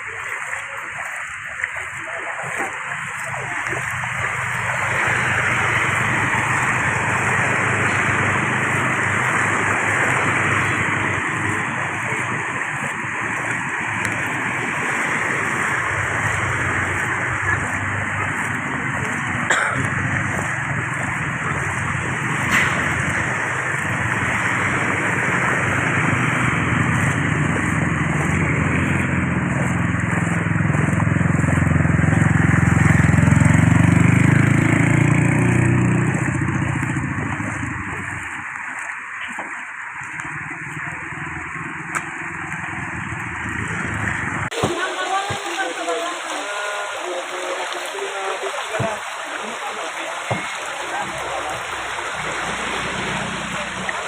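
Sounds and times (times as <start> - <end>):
vehicle engines running: 0.0 - 54.0
water splashing: 0.0 - 54.0.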